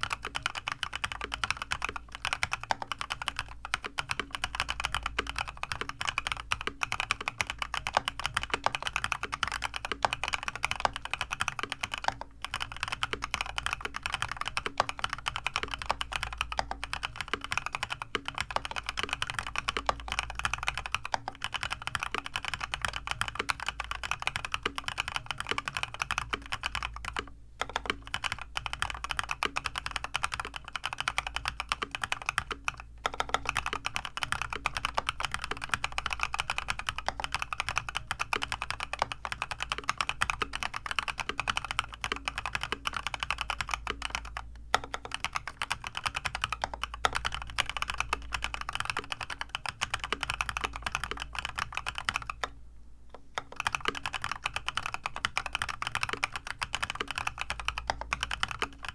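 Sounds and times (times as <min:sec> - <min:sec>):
mechanical keyboard typing: 0:00.0 - 0:58.9.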